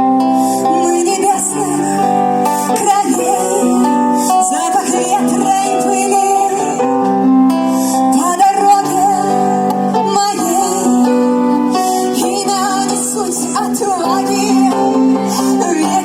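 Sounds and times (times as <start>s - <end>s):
guitar chords: 0.0s - 16.0s
wavering lead melody: 0.0s - 16.0s.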